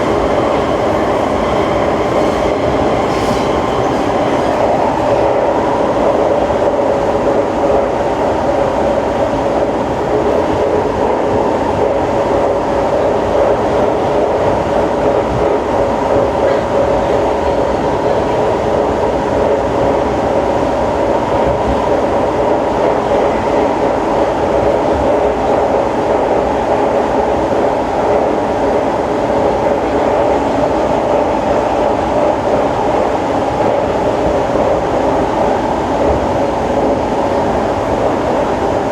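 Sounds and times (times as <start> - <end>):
train wheels on rail: 0.0 - 38.9.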